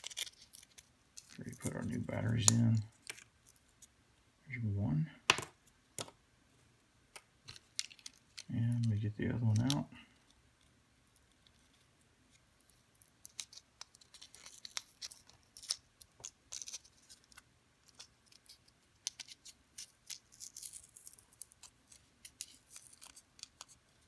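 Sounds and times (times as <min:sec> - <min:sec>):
small parts clicking and scratching: 0:00.0 - 0:03.9, 0:07.1 - 0:24.0.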